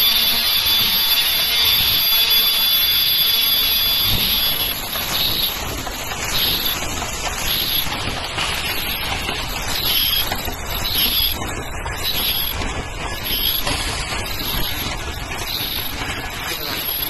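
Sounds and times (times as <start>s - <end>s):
machinery running: 0.0s - 17.0s.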